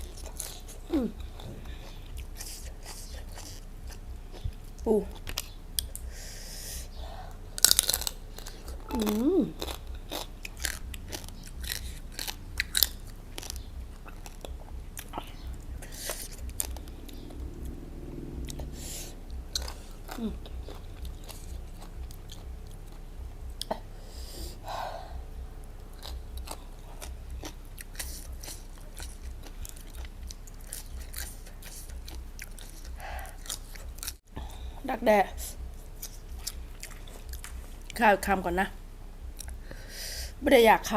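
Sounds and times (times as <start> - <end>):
person chewing crunchy food: 0.0 - 24.7, 25.3 - 34.6, 35.4 - 38.0.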